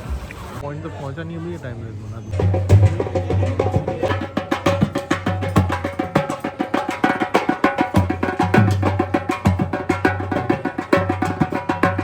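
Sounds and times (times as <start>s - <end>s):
fast hand drum strokes: 2.3s - 12.0s.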